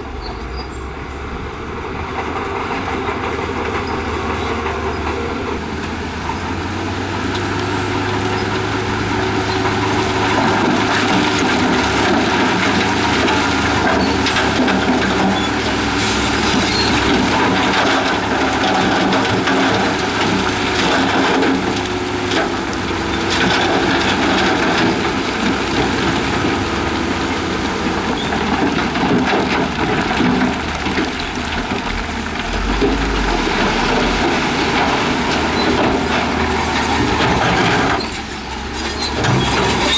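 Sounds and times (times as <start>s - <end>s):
heavy diesel machinery running: 0.0s - 39.9s
rock and soil crunching: 5.6s - 39.9s.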